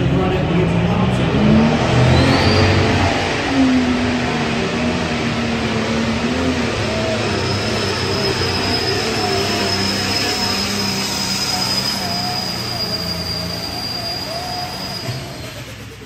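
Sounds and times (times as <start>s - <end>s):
diesel engine under load: 0.0s - 16.0s
turbocharger whistle: 1.4s - 16.0s.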